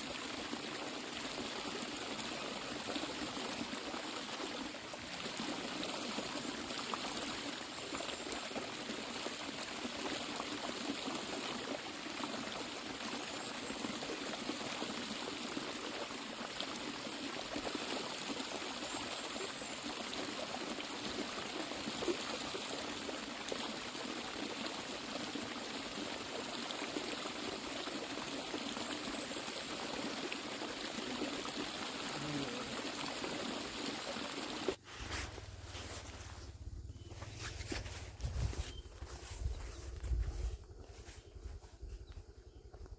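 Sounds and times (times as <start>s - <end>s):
stream water rushing: 0.0s - 36.5s.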